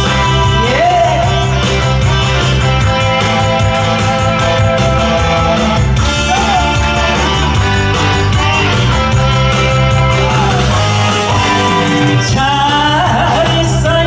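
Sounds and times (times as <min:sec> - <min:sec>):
instrumental music with beat: 0:00.0 - 0:14.0.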